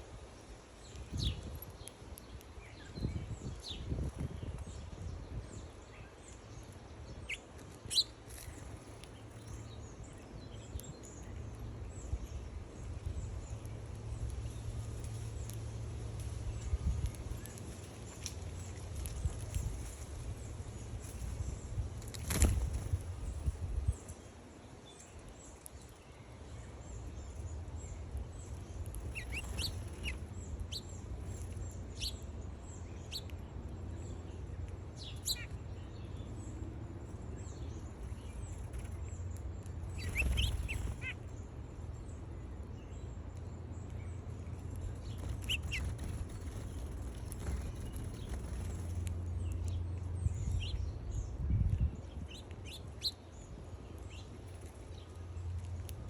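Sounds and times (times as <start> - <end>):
birds chirping: 0.7 - 56.0
steady low rumble: 8.4 - 24.2, 26.5 - 56.0.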